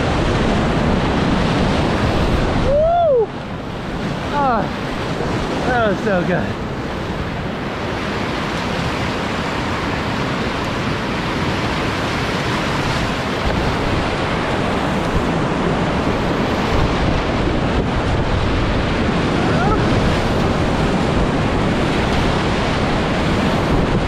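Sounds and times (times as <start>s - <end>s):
whitewater rapids rushing: 0.0s - 24.0s.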